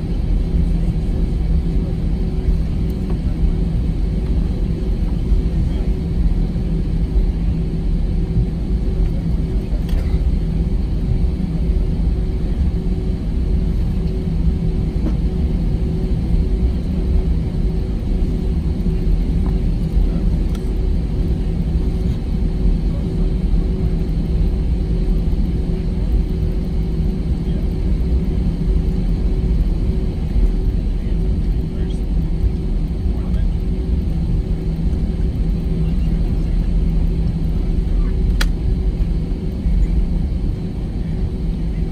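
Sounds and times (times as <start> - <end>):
aircraft engines low rumble: 0.0 - 41.9
constant hum: 0.0 - 41.9.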